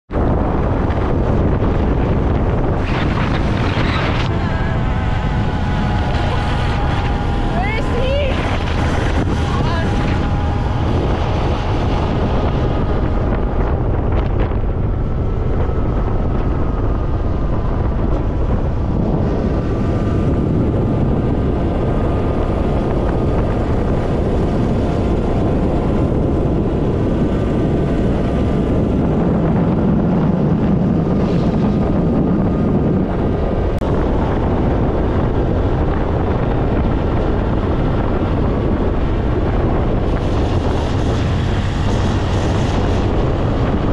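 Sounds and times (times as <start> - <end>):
motorcycle engine hum: 0.0 - 43.9
wind buffeting microphone: 0.1 - 43.9.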